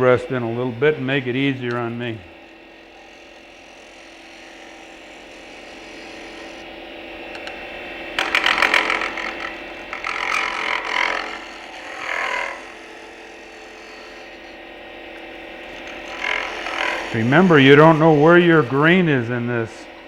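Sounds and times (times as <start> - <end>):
turning tool scraping wood: 0.0 - 20.0
wood lathe humming: 0.0 - 20.0.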